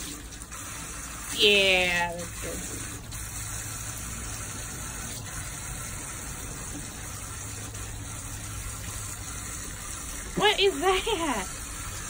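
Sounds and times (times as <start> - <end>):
hose water splashing on wood: 0.0 - 12.0.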